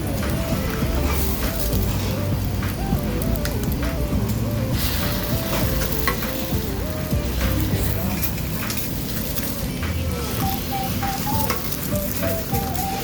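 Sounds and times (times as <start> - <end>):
frying sizzle: 0.0 - 13.0
light background music: 0.0 - 13.0.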